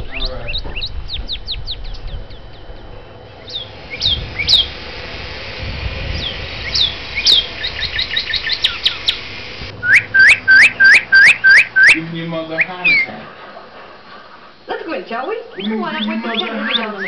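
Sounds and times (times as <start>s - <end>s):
cardinal whistling song: 0.0s - 13.2s, 15.2s - 17.0s.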